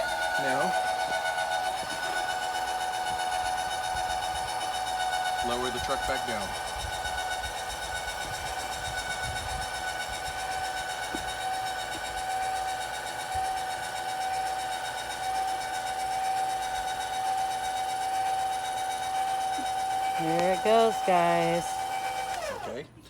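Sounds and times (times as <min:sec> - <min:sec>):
electric jack motor whining: 0:00.0 - 0:23.0.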